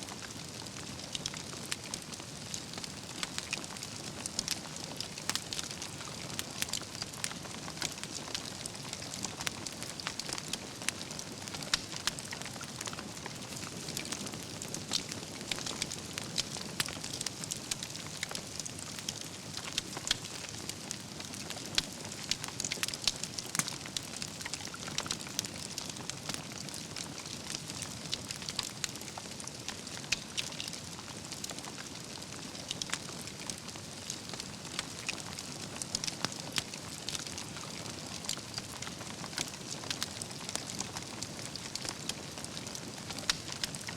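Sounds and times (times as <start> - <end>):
wood fire crackling: 0.1 - 43.9.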